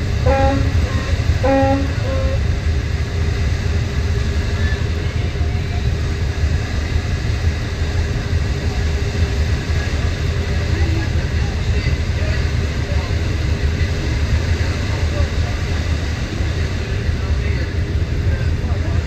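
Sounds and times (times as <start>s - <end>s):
ferry engine drone: 0.0s - 19.0s.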